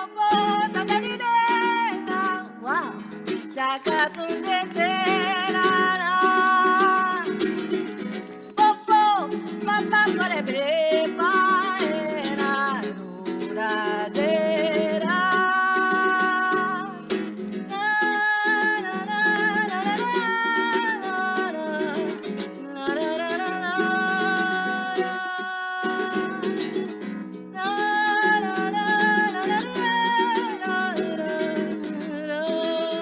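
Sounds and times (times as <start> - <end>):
person singing: 0.0 - 33.0
strummed guitar: 0.0 - 33.0.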